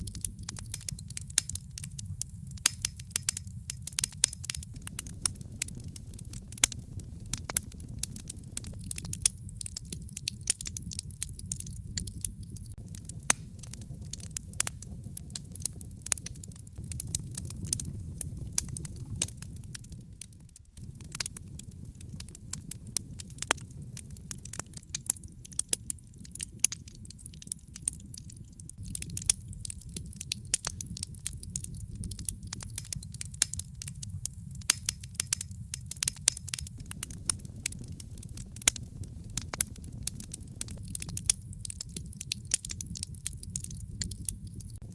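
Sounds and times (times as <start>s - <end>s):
low fire rumble: 0.0s - 44.9s
wood fire crackling and popping: 0.0s - 44.9s.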